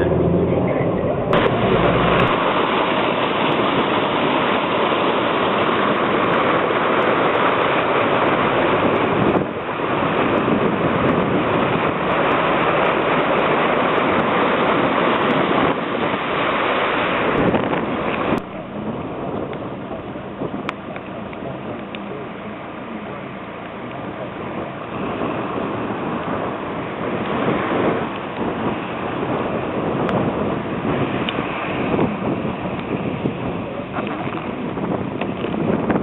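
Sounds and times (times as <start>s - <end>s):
car driving through floodwater: 0.0s - 36.0s
wind buffeting microphone: 0.0s - 36.0s.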